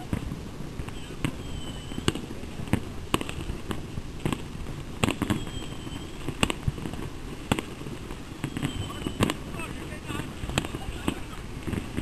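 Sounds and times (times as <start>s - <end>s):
firecracker bangs: 0.0s - 12.0s
firework crackle: 0.0s - 12.0s
steady background noise: 0.0s - 12.0s.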